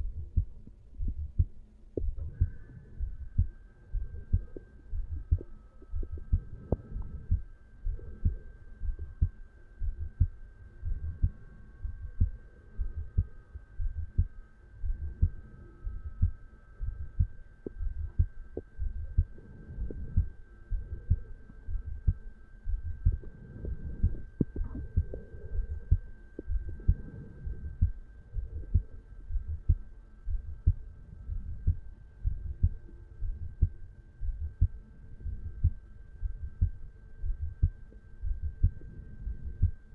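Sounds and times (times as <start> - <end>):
heartbeat thuds: 0.0 - 39.8
faint high hum: 0.0 - 39.9.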